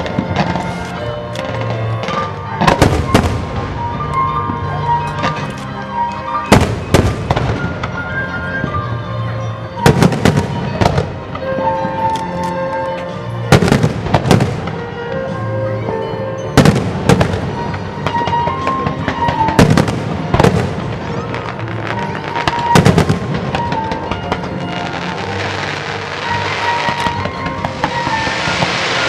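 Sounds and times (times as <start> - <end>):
fireworks bursting with bangs: 0.0 - 8.8, 9.7 - 29.0
music with held-note melody: 0.0 - 29.0.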